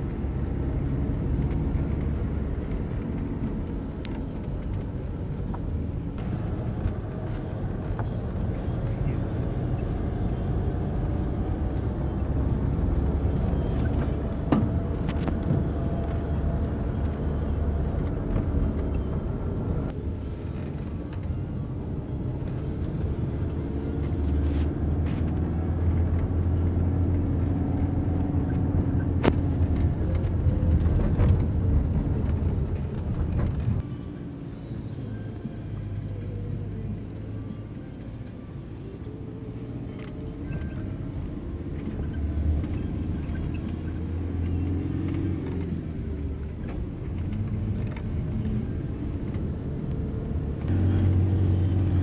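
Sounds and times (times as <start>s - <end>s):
low road rumble: 0.0s - 52.0s
vehicle engine running: 0.0s - 52.0s.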